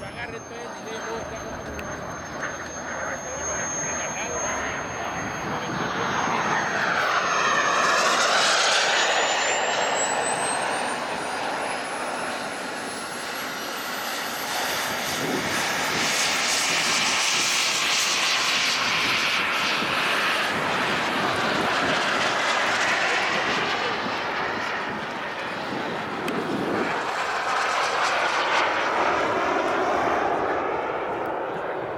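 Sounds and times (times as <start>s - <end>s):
model jet turbine whine: 0.0s - 31.9s.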